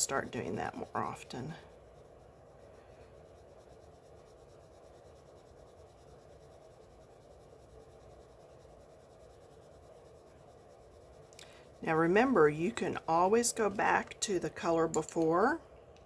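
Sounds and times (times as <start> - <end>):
coloured pencil shading on paper: 0.0 - 15.6.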